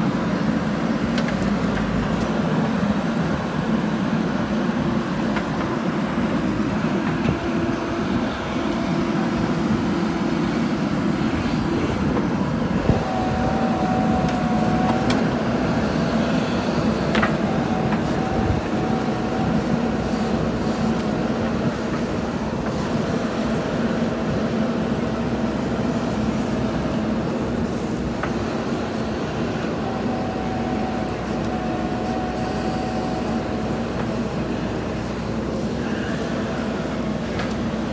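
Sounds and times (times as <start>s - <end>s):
diesel engine running under load: 0.0s - 37.9s.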